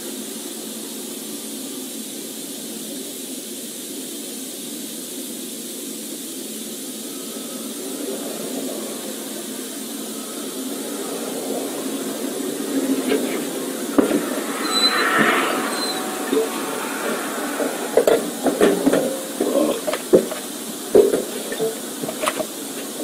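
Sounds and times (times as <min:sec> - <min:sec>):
vehicle interior noise with hiss: 0:00.0 - 0:23.0.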